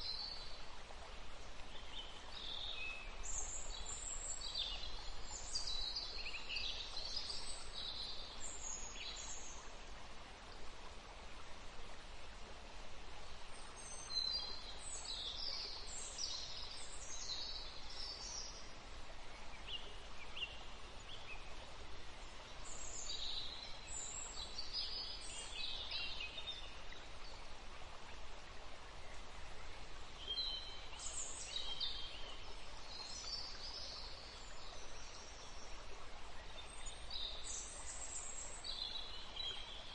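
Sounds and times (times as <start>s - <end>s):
faint outdoor background hiss: 0.0s - 39.9s.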